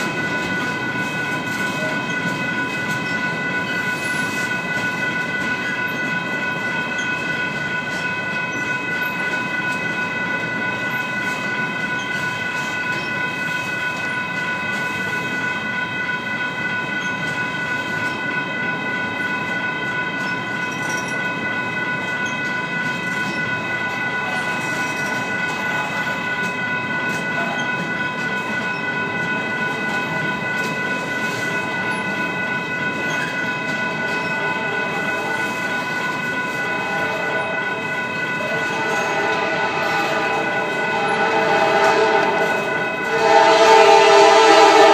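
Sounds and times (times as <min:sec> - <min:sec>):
freight train wheels on rails: 0:00.0 - 0:44.9.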